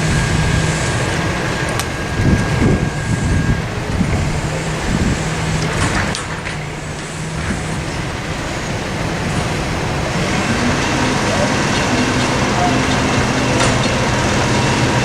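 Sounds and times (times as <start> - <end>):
freight train rumbling on rails: 0.0 - 15.0
low engine tone: 0.0 - 15.0.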